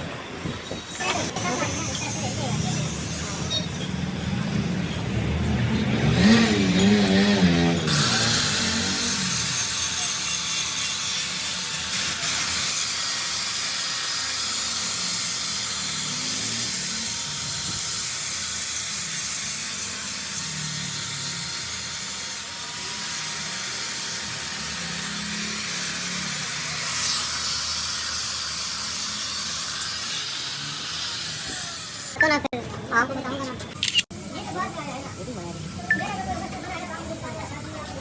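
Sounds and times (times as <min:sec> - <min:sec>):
machine hissing: 0:00.5 - 0:32.2.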